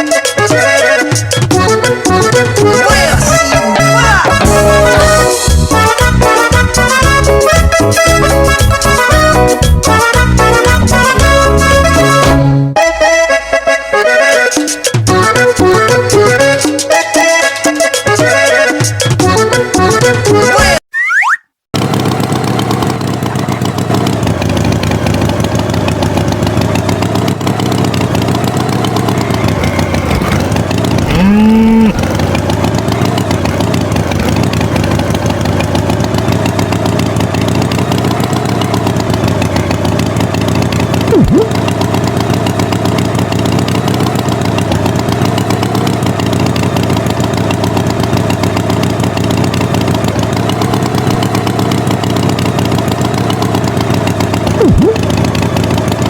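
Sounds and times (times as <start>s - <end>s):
cartoon tractor engine: 0.0s - 56.0s.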